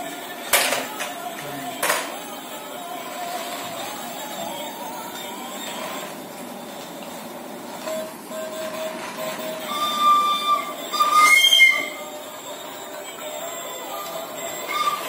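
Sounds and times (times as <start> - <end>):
high held tones: 0.0 - 15.0.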